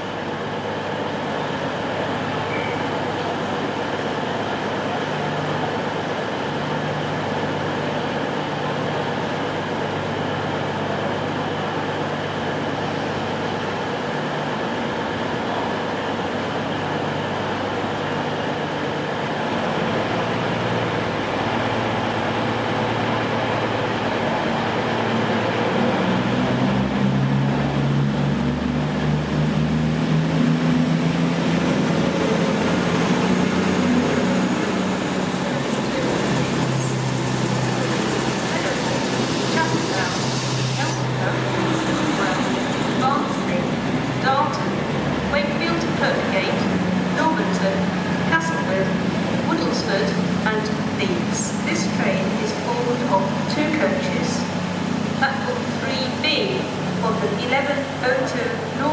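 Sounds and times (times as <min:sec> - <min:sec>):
diesel train engine throbbing: 0:00.0 - 0:58.9.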